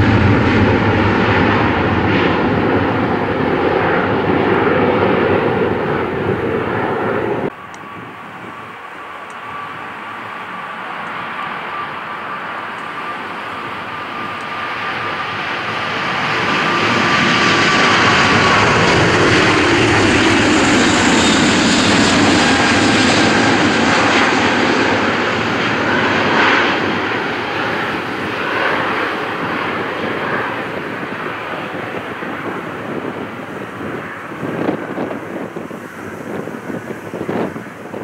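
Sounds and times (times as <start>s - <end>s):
jet engines at takeoff power: 0.0s - 38.0s.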